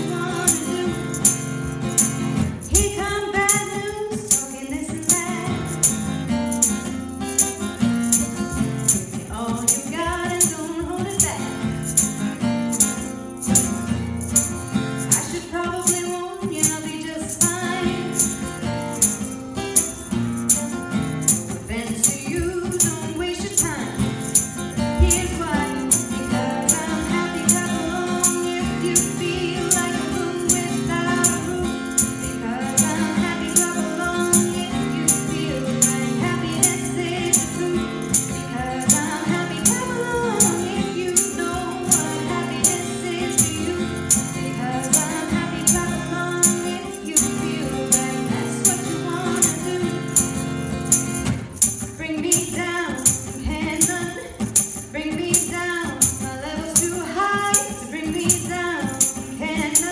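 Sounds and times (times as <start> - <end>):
woman singing: 0.0 - 6.0, 7.4 - 12.0, 14.4 - 19.9, 21.3 - 50.6, 51.7 - 59.9
strummed acoustic guitar: 0.0 - 59.9
tambourine beat: 0.0 - 59.9.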